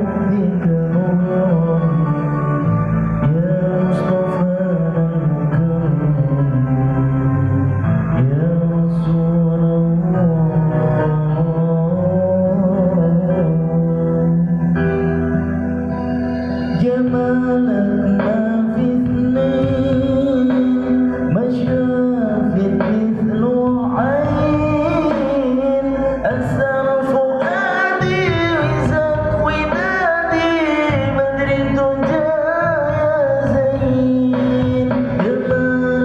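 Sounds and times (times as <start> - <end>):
man singing devotional song: 0.0 - 15.2, 16.6 - 36.0
instrumental accompaniment: 0.0 - 36.0.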